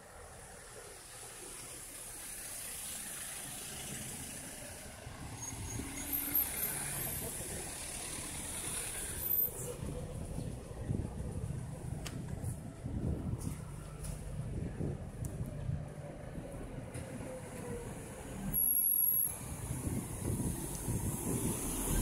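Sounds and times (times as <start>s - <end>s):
vehicle rumble on city street: 0.0s - 22.0s.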